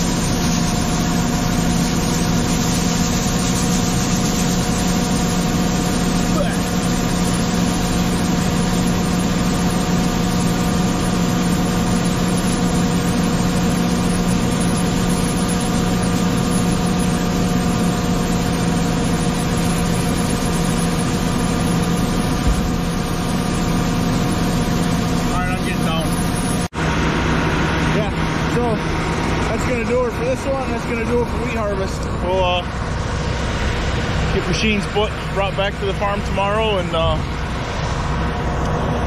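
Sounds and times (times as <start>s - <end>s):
grain auger running: 0.0s - 39.0s
tractor engine running: 0.0s - 39.0s.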